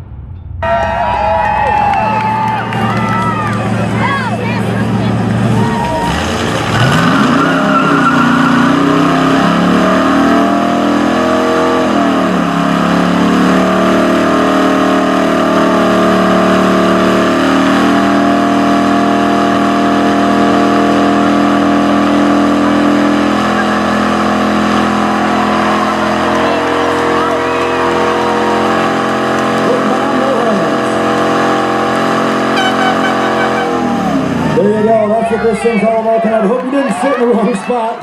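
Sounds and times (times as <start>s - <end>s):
truck engine revving high: 0.0s - 38.0s.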